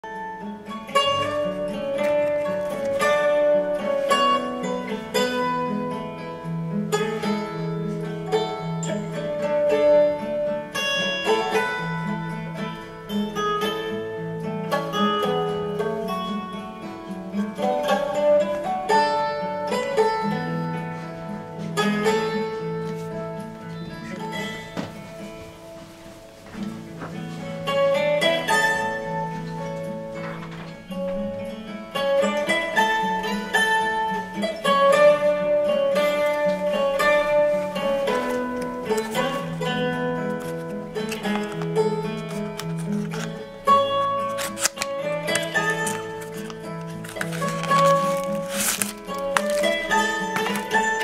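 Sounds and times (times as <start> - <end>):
plucked guitar instrumental music: 0.0 - 51.0.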